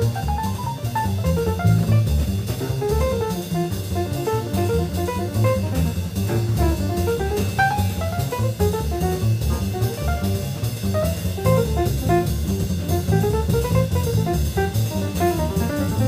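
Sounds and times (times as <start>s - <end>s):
drum kit: 0.0s - 16.0s
walking double bass: 0.0s - 16.0s.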